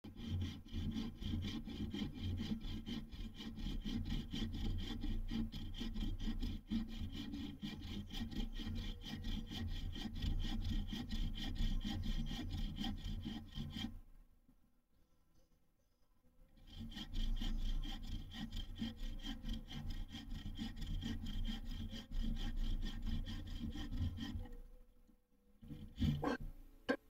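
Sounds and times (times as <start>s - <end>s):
bow saw cutting branch: 0.1s - 14.0s, 16.6s - 24.7s, 25.6s - 26.5s.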